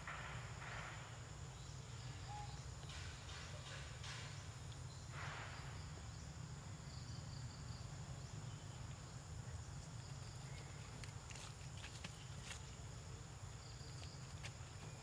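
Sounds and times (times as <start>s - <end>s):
faint insect chirping: 0.0s - 15.0s
rustle: 0.0s - 15.0s.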